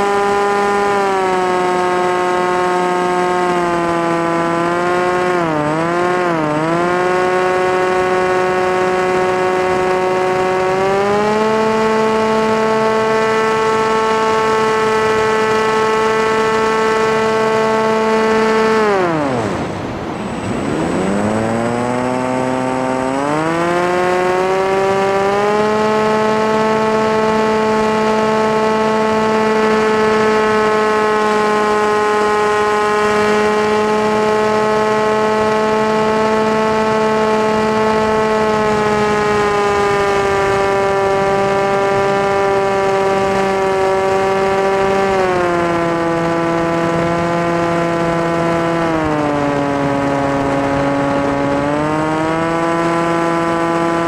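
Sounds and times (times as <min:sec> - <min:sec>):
model aircraft motor whine: 0:00.0 - 0:54.0.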